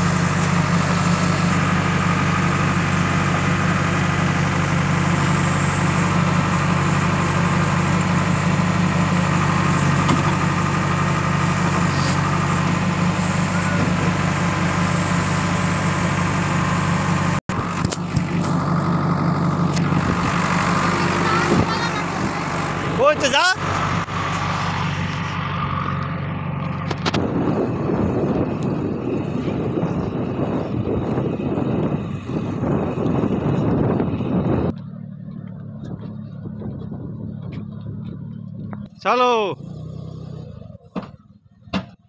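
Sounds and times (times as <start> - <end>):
diesel engine running: 0.0 - 42.0
outdoor noise: 0.0 - 42.0.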